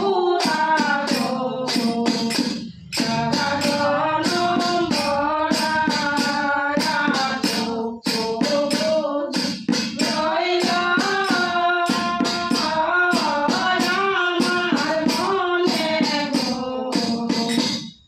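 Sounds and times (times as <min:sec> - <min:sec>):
women singing devotional song: 0:00.0 - 0:17.9
small hand cymbals: 0:00.0 - 0:18.0.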